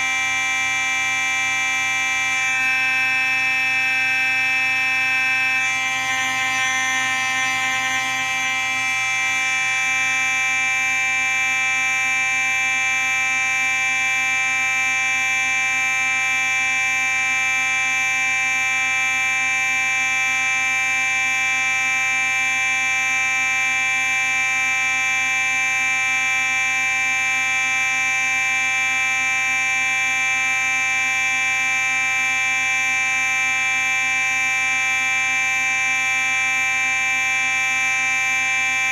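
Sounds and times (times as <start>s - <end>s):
fire alarm steady tone: 0.0s - 38.9s.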